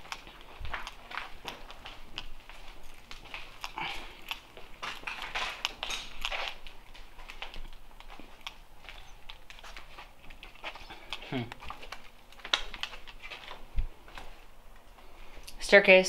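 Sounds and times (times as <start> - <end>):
footsteps crunching on rubble: 0.0 - 15.1.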